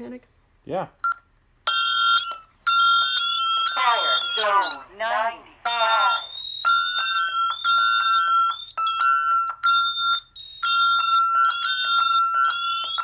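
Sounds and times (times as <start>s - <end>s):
fire alarm beeping: 1.0s - 13.0s.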